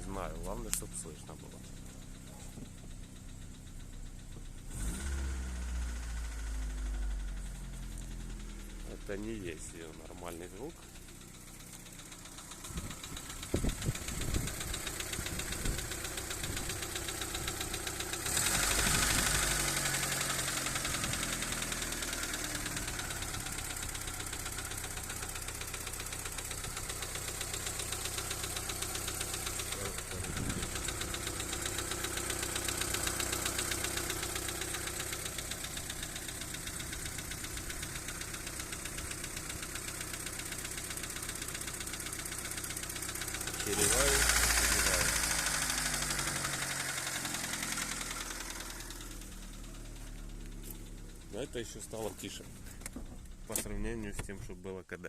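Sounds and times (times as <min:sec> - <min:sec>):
car engine with clattering tap: 0:00.3 - 0:05.5, 0:07.2 - 0:08.8, 0:10.3 - 0:54.5.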